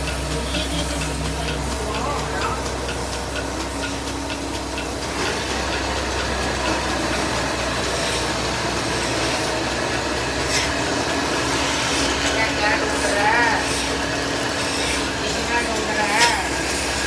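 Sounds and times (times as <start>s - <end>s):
wood-turning lathes running: 0.0s - 17.0s.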